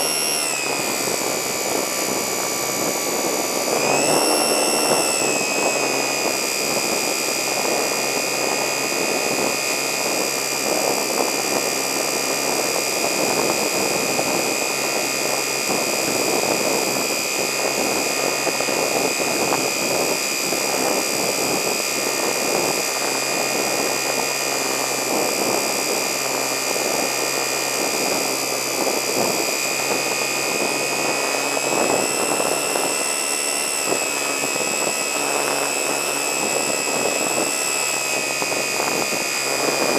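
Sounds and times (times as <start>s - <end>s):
electric motor whine: 0.0s - 39.9s
propeller wash and air rush: 0.0s - 39.9s.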